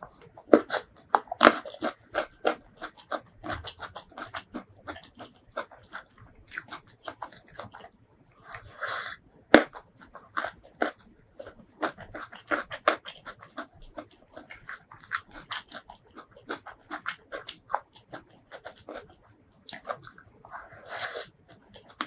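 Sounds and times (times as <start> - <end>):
wet chewing and lip smacking: 0.0 - 8.7, 9.6 - 22.0.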